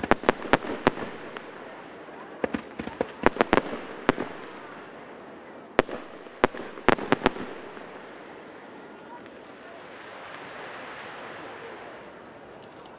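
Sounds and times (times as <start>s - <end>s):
fireworks bursting with sharp bangs: 0.0s - 12.9s
fireworks crackling: 0.0s - 12.9s.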